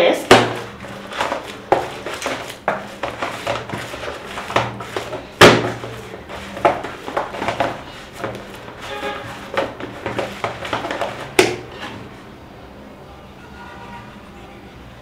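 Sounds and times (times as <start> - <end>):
dough kneading thuds: 0.0 - 12.2.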